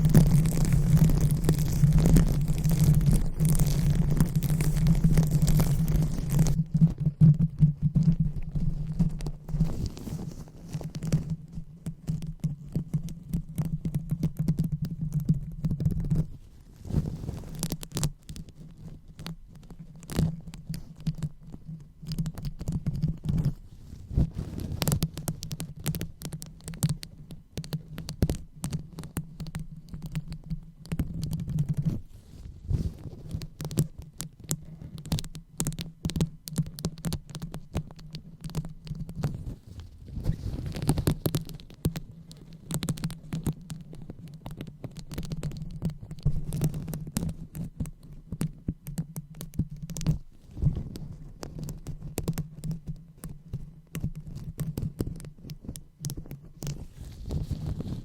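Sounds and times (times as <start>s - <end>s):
low steady hum: 0.0s - 53.9s
fingers scratching a microphone: 0.0s - 58.0s.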